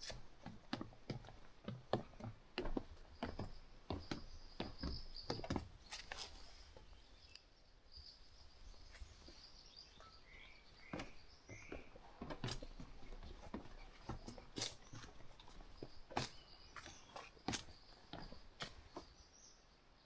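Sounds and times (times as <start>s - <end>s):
footsteps on a trail: 0.0s - 7.0s, 8.8s - 19.2s
birds chirping: 3.1s - 7.4s, 8.0s - 19.7s.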